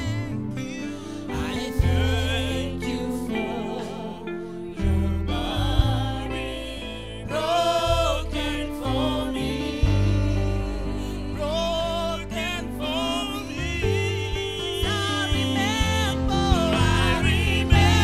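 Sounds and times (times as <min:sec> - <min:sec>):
deep bass line: 0:00.0 - 0:18.0
group singing gospel song: 0:00.0 - 0:18.0
sustained chords: 0:00.0 - 0:18.0.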